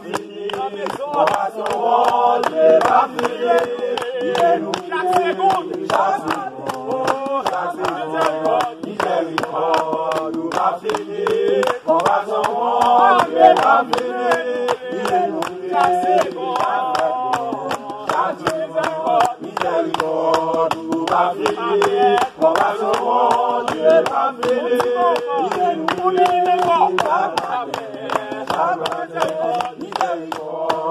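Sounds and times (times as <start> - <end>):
group singing without instruments: 0.0 - 30.9
hand-clapping: 0.0 - 30.9.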